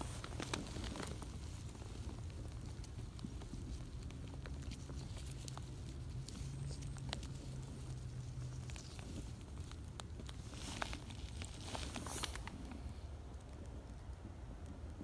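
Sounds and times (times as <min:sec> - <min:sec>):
grass rustling and crackling: 0:00.0 - 0:14.4
low steady hum: 0:00.0 - 0:15.0.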